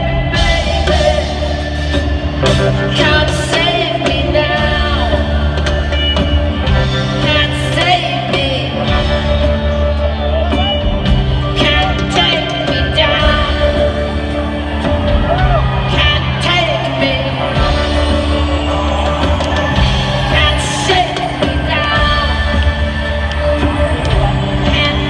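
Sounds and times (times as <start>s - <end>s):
woman singing: 0.0s - 9.6s, 11.4s - 14.4s, 15.7s - 18.5s, 20.2s - 25.0s
live rock band: 0.0s - 25.0s.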